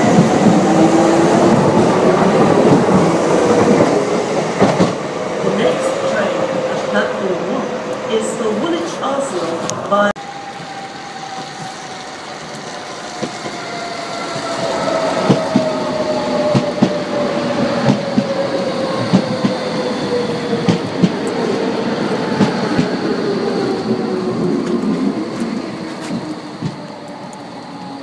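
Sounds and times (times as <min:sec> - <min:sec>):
electric train whine: 0:00.0 - 0:28.0.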